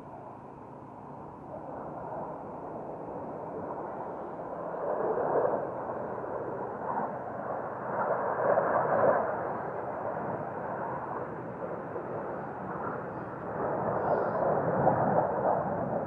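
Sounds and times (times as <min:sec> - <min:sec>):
distant jets roaring overhead: 0:00.0 - 0:16.0.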